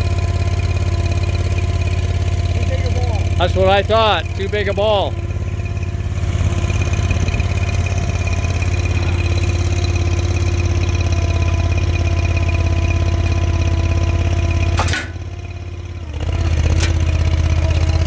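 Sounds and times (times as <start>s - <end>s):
small gas engine running: 0.0s - 18.0s.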